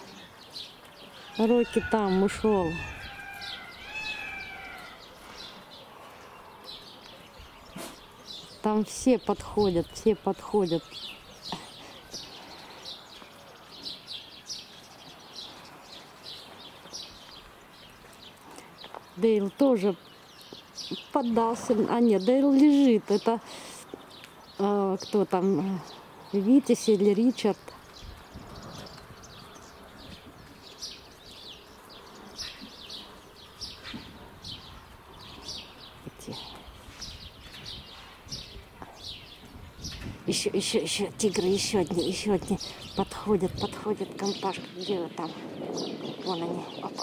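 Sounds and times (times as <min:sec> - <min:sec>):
faint outdoor background noise: 0:00.0 - 0:47.0
small birds chirping: 0:00.0 - 0:47.0.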